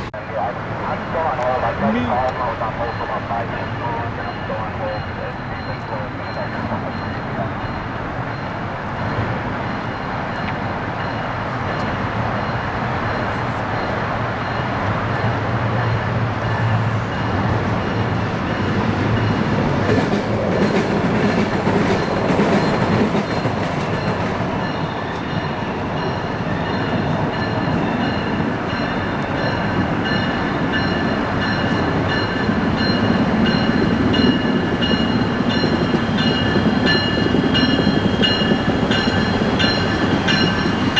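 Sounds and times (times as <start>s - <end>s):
train wheels on rails: 1.2s - 40.9s.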